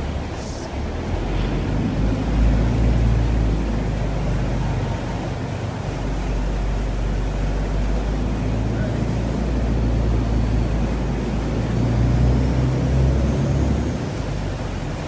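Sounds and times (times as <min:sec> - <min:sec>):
boat engine humming: 0:00.0 - 0:15.0
water rushing along hull: 0:00.0 - 0:15.0.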